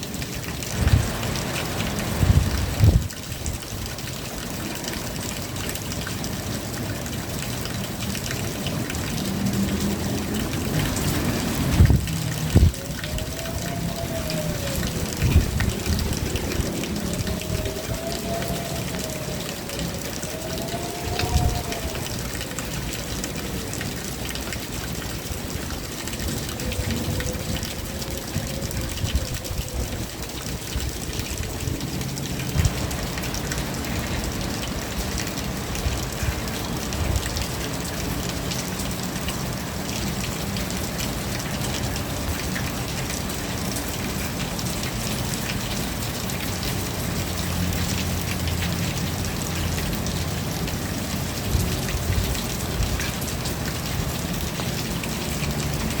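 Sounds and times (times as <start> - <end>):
raindrops ticking on a surface: 0.0 - 56.0
steady rain hiss: 0.0 - 56.0.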